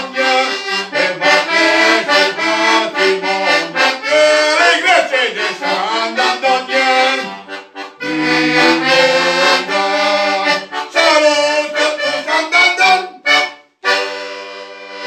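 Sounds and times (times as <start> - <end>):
button accordion playing folk tune: 0.0 - 15.0.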